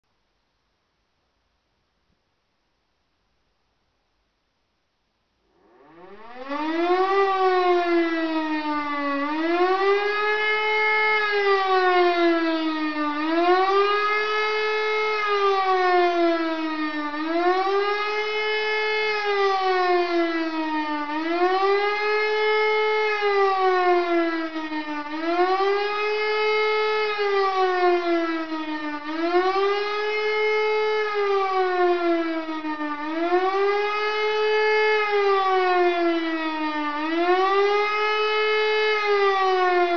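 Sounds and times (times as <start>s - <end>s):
electric motor siren wailing: 5.6s - 39.9s.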